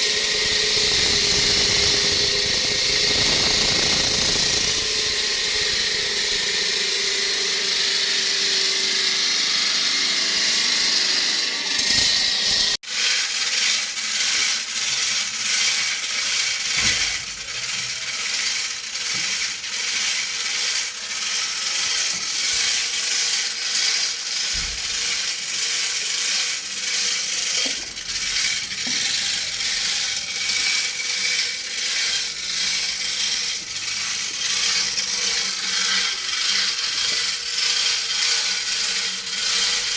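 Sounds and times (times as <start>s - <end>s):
concrete saw grinding: 0.0s - 39.9s.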